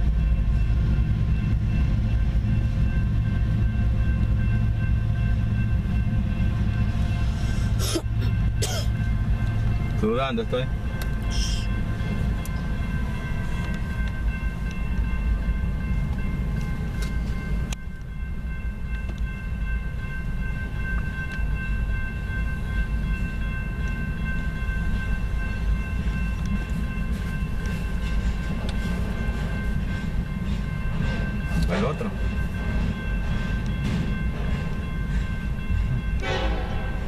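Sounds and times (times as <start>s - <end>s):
freight train rumble: 0.0s - 37.0s.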